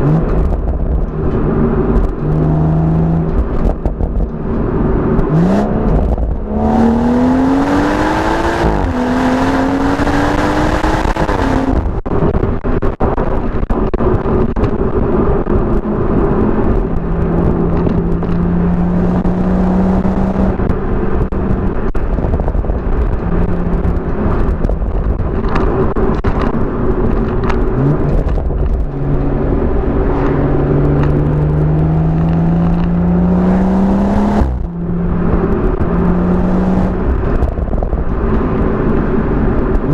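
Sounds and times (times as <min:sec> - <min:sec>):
car engine revving through gears: 0:00.0 - 0:12.0, 0:16.0 - 0:37.6.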